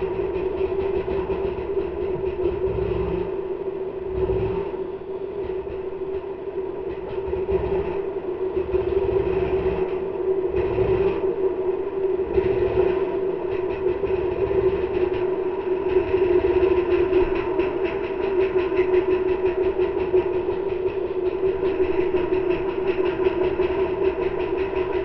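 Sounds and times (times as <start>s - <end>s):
uneven low rumbling: 0.0s - 25.0s.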